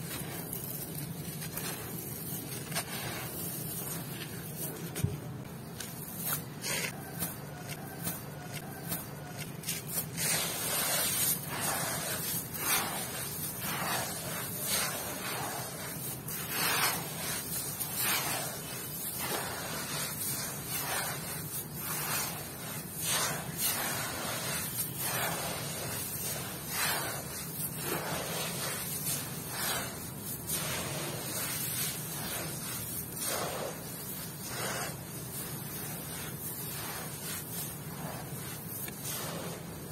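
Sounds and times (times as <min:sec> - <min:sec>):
grit and sand poured by hand: 0:00.0 - 0:39.9.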